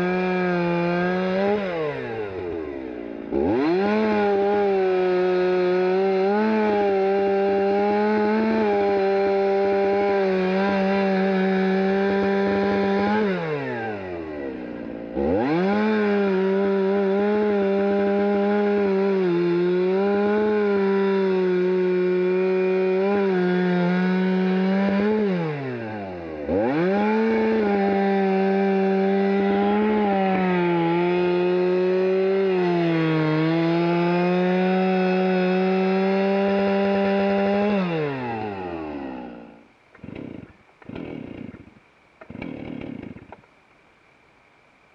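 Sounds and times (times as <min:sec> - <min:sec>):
chainsaw cutting log: 0:00.0 - 0:43.6.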